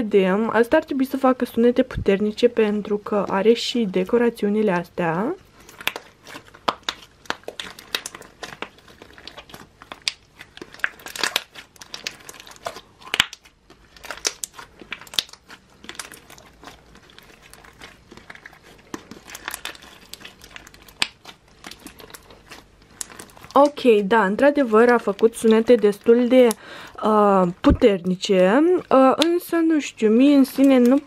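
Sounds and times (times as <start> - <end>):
crunchy slime crackling: 4.5 - 31.0.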